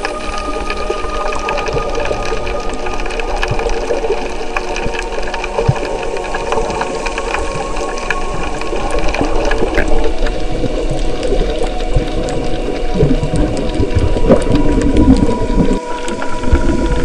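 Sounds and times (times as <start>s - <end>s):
underwater clicks and crackles: 0.0s - 17.0s
underwater machine hum: 0.0s - 17.0s.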